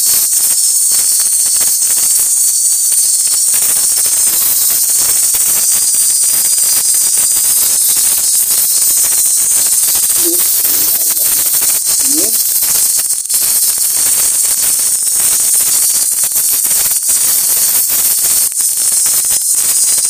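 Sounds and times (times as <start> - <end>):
flatbread sizzling in oil: 0.0 - 20.0.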